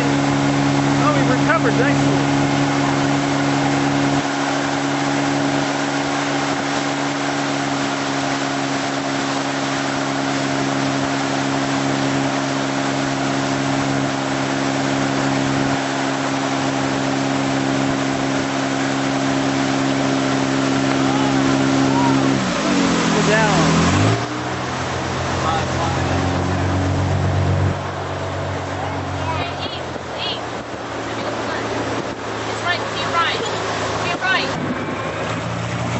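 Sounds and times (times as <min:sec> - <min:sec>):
boat engine running: 0:00.0 - 0:35.9
water rushing: 0:00.0 - 0:35.9.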